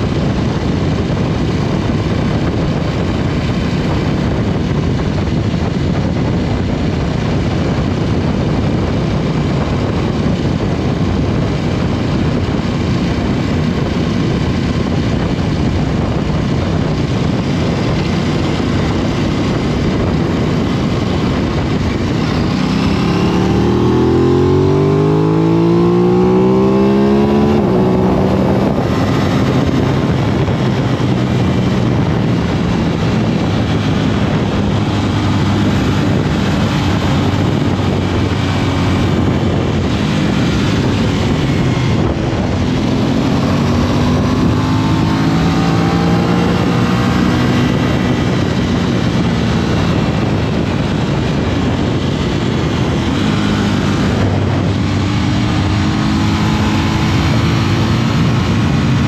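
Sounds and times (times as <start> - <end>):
motorcycle engine revving: 0.0 - 59.0
wind noise: 0.0 - 59.0.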